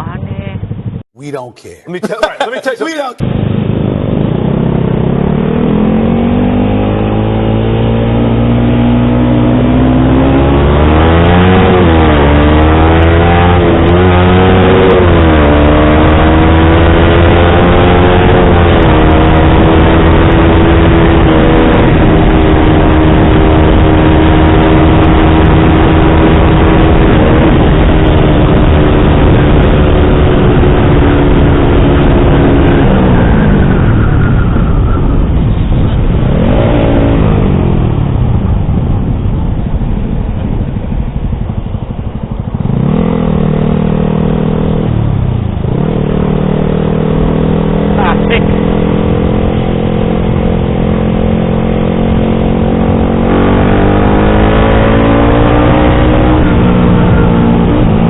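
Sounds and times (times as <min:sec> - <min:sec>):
motorcycle engine revving: 0:00.0 - 0:01.0, 0:03.2 - 0:58.0.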